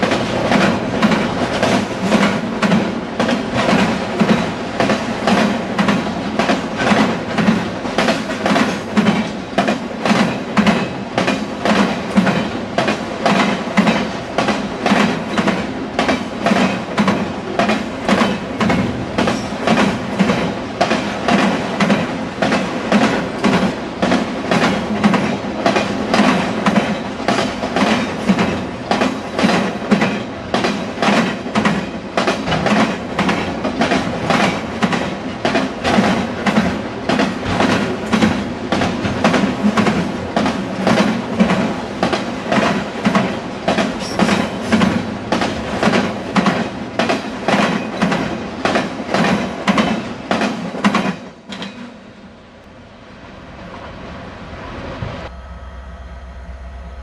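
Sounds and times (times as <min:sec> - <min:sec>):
train wheels clacking on track: 0:00.0 - 0:52.0
train rumble: 0:00.0 - 0:57.0.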